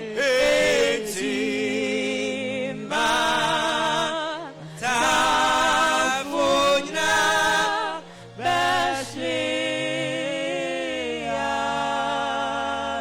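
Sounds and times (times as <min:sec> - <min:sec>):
group singing gospel: 0:00.0 - 0:13.0.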